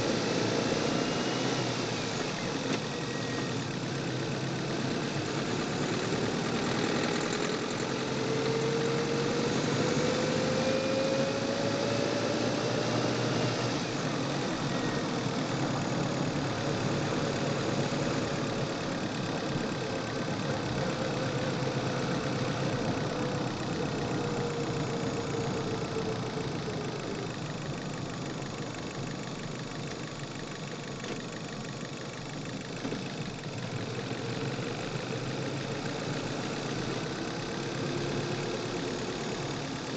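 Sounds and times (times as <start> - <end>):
engine knocking: 0.0 - 11.4, 12.4 - 39.9
car engine accelerating: 0.0 - 39.9.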